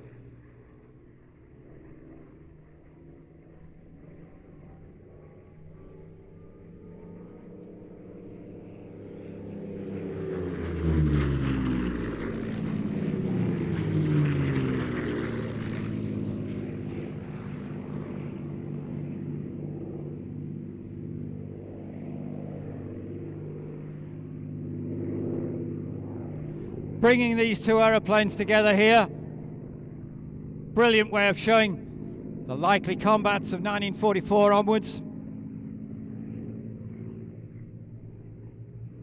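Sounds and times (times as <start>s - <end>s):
distant aircraft engine drone: 0.0s - 39.0s
propeller aircraft engines passing: 0.0s - 39.0s.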